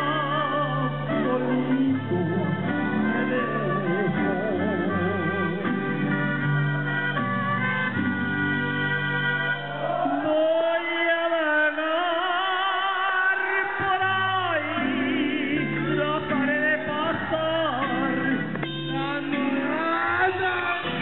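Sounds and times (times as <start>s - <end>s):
man singing into microphone: 0.0s - 6.6s, 9.8s - 21.0s
instrumental backing music: 0.0s - 21.0s.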